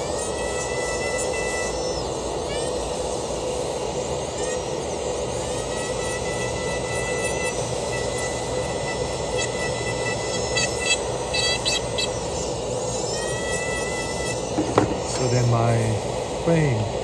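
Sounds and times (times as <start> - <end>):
dental drill whine: 0.0 - 17.0
grinding hiss: 0.0 - 17.0.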